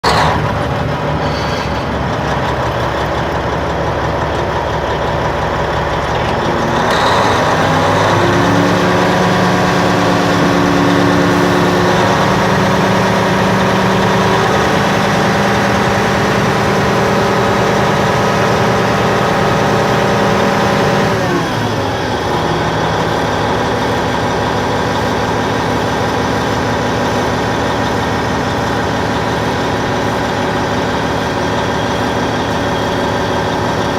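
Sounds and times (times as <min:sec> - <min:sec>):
bulldozer diesel engine revving: 0:00.0 - 0:33.9.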